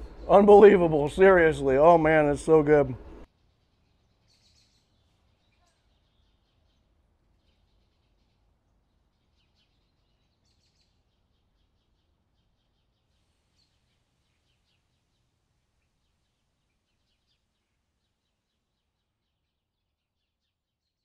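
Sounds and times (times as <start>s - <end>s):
faint bird chirps: 3.3s - 21.0s.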